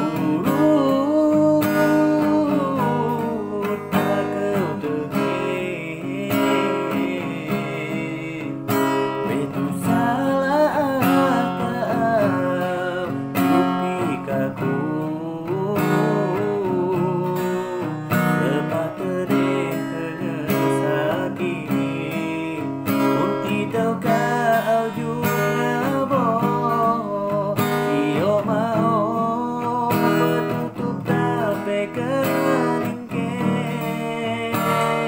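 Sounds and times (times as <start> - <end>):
acoustic guitar strumming: 0.0 - 35.0
man singing: 0.0 - 35.0.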